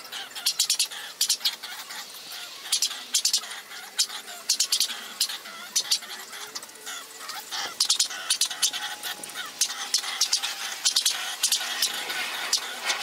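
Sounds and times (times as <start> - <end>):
sped-up high-pitched clicking chatter: 0.0 - 13.0.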